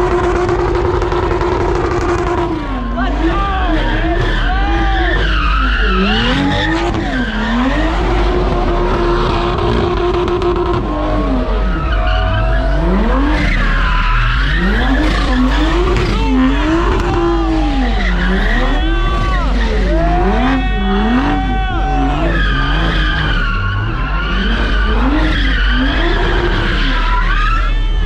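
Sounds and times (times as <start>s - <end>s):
car engine revving: 0.0s - 28.0s
tyres squealing on asphalt: 0.0s - 28.0s.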